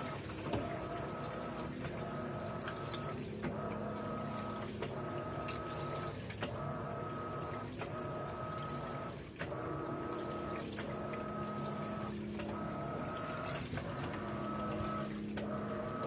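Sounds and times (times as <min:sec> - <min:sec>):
washing machine motor whine: 0:00.0 - 0:16.0
water sloshing: 0:00.0 - 0:16.0.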